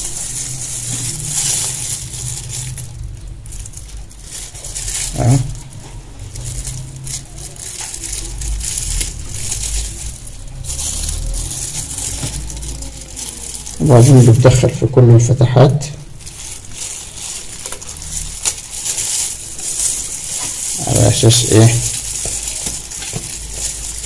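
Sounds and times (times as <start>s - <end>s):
plastic glove crinkling: 0.0s - 24.0s.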